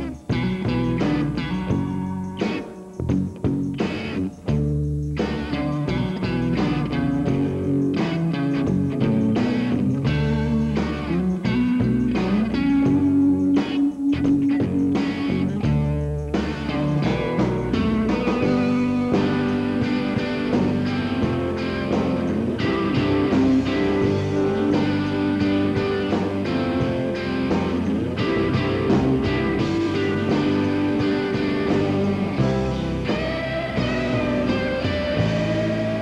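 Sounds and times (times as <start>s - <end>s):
instrumental rock music: 0.0s - 36.0s.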